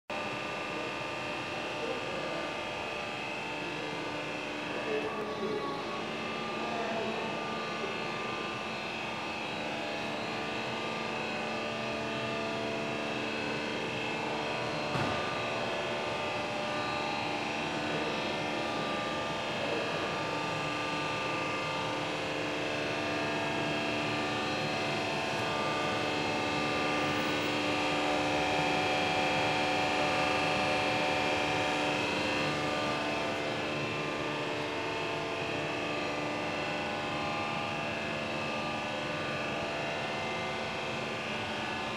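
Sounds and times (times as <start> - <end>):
lathe motors humming: 0.3 - 41.9.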